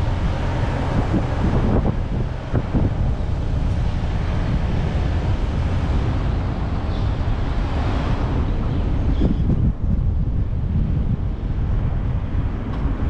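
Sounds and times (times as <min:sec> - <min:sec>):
car rumbling on road: 0:00.0 - 0:13.0
wind buffeting microphone: 0:00.0 - 0:13.0.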